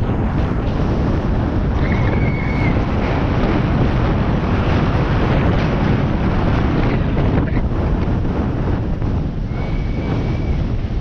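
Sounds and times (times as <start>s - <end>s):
bike rattling over cobblestones: 0.0s - 11.0s
wind rushing over microphone: 0.0s - 11.0s.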